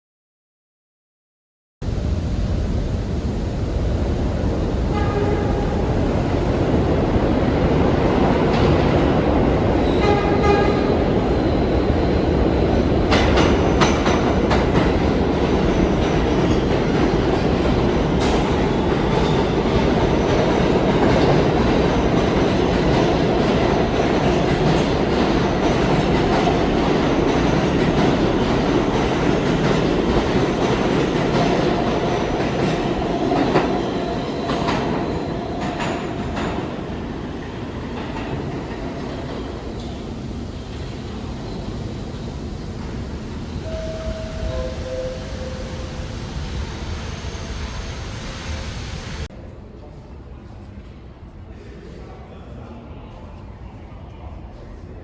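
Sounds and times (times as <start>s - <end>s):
subway train wheels clacking: 3.1s - 55.0s.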